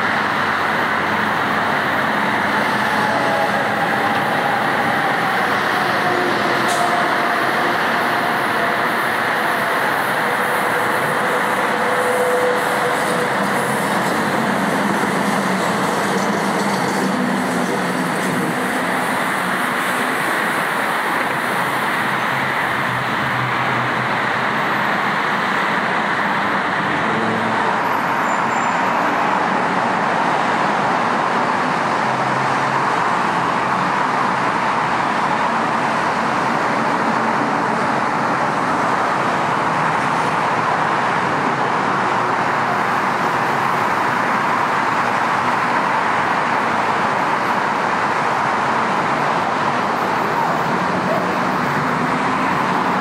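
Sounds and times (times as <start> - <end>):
freeway traffic rushing: 0.0 - 53.0.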